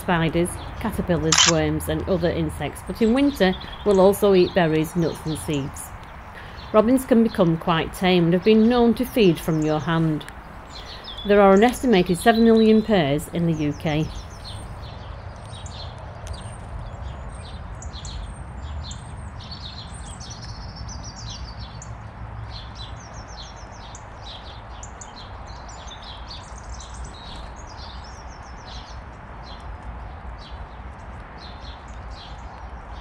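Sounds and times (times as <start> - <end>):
small birds chirping and singing: 0.0 - 33.0.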